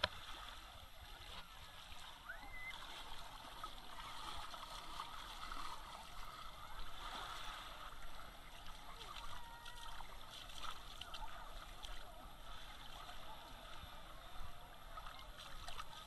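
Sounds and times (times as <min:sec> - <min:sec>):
waves lapping on sand: 0:00.0 - 0:16.0.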